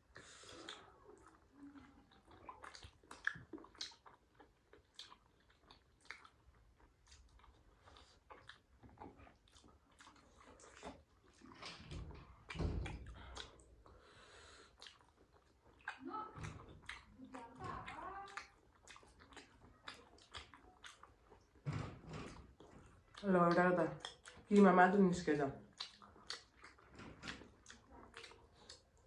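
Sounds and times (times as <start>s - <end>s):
chewing with wet smacks: 0.0s - 29.0s.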